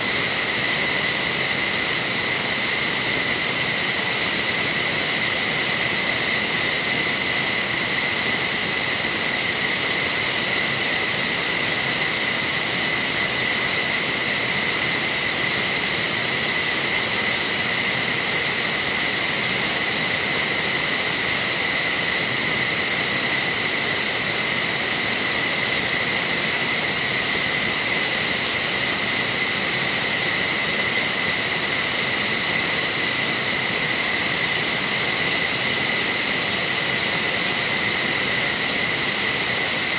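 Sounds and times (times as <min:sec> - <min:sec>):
jet turbines whining: 0:00.0 - 0:39.9.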